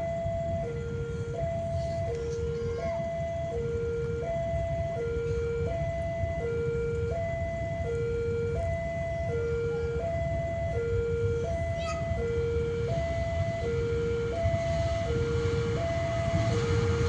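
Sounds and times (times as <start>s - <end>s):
level crossing alarm two tones: 2.8s - 16.9s.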